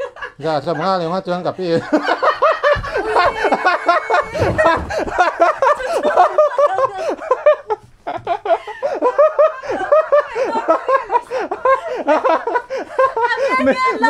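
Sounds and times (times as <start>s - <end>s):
woman laughing hard: 1.7s - 14.0s.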